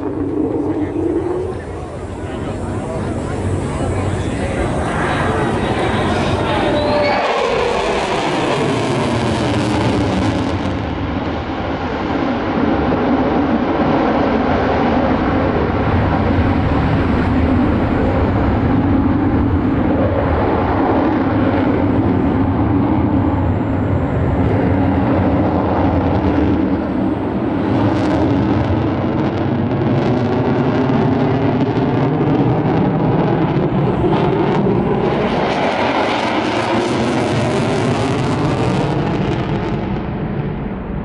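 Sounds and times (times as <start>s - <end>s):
jet flying overhead: 0.0s - 41.0s.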